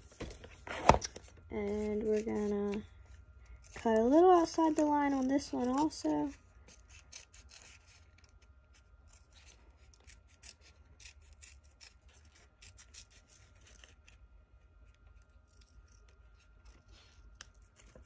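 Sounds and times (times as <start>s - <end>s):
scissors snipping paper: 0.9s - 2.9s, 3.5s - 14.2s, 14.9s - 18.0s.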